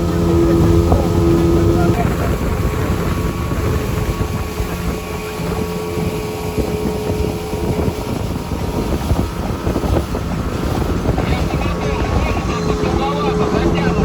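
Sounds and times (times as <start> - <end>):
outboard motor running: 0.0 - 14.0
water rushing past hull: 0.0 - 14.0
wind buffeting microphone: 0.0 - 14.0.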